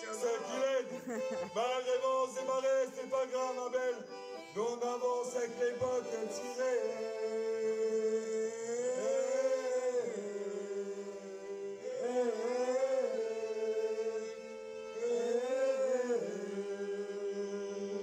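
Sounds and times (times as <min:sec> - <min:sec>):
person singing wordless vowels: 0:00.0 - 0:18.0.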